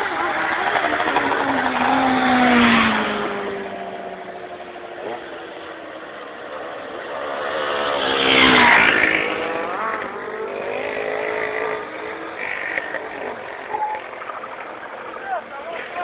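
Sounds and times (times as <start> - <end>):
car accelerating past: 0.0 - 14.6.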